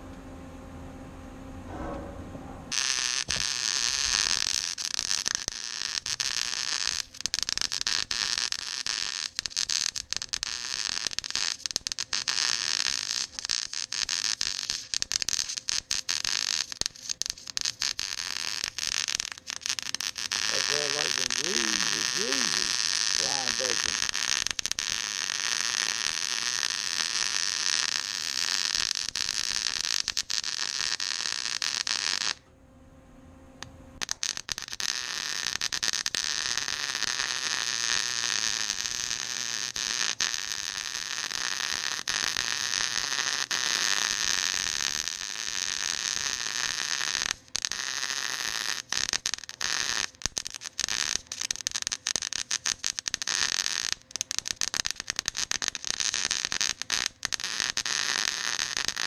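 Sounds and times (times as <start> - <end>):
welding arc crackling: 2.7 - 32.4, 34.0 - 59.0.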